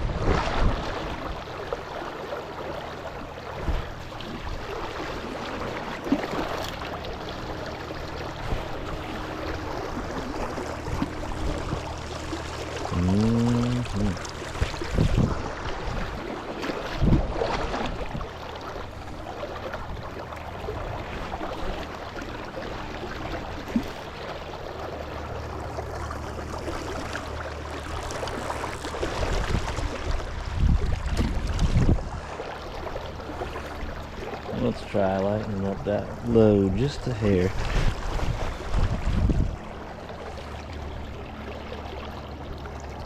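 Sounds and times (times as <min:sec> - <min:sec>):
river water running: 0:00.0 - 0:43.0.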